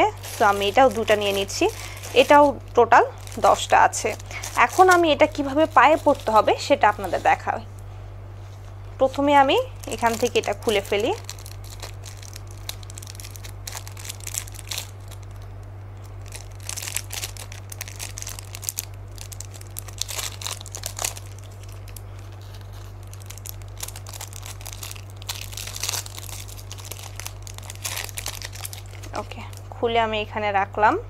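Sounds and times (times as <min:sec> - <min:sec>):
plastic packaging crinkling: 0:00.0 - 0:07.7, 0:09.0 - 0:29.8
steady low hum: 0:00.0 - 0:31.0.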